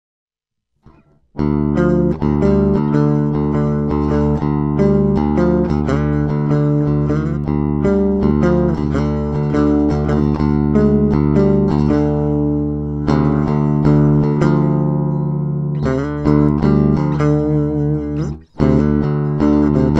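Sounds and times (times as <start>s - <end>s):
electric guitar melody: 0.8s - 19.9s.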